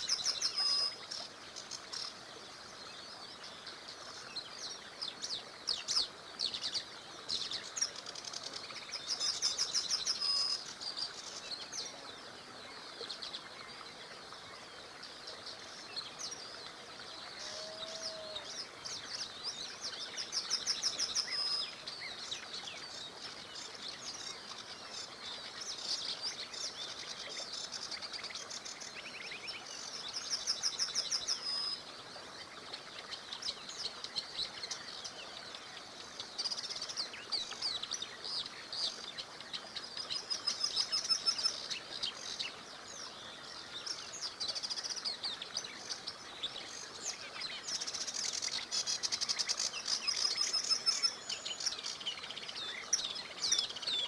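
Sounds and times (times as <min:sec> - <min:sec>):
small river hissing: 0:00.0 - 0:54.0
songbirds singing and chirping: 0:00.0 - 0:54.0.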